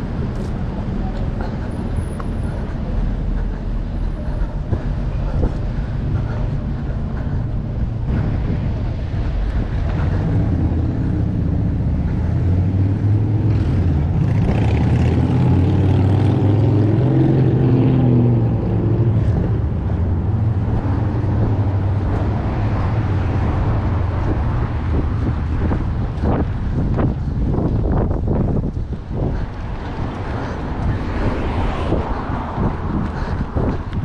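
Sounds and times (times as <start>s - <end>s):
street traffic: 0.0s - 34.0s
vehicle engine running close: 0.0s - 34.0s
wind rumble on microphone: 0.0s - 34.0s.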